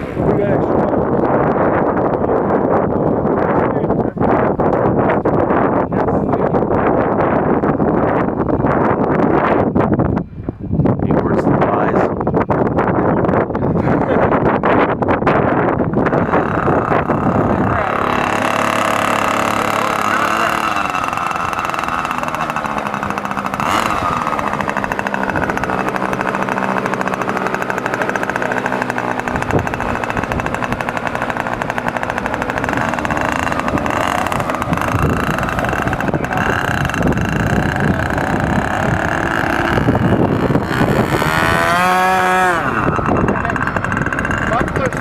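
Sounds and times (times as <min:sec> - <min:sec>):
model airplane engine buzzing: 0:00.0 - 0:45.0
wind rumbling on microphone: 0:00.0 - 0:45.0.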